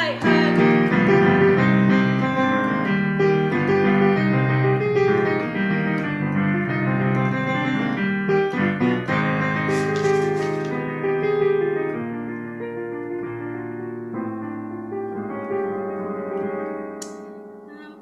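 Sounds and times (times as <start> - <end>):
digital piano playing: 0.0 - 18.0.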